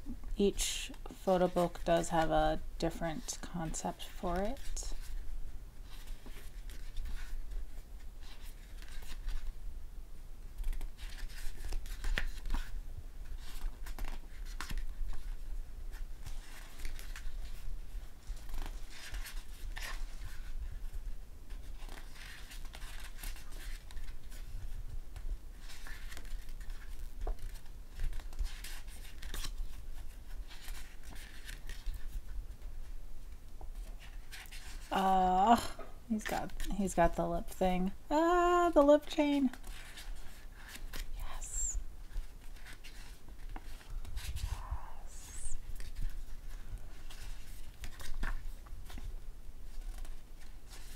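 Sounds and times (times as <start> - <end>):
book pages turning: 3.1 - 9.6, 10.5 - 35.5, 36.2 - 37.5, 38.7 - 41.4, 42.0 - 50.9.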